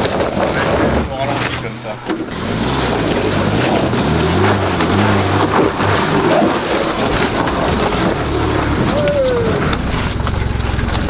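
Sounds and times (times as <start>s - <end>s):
tyres rolling on rocky ground: 0.0s - 11.0s
car engine revving at low speed: 0.5s - 11.0s.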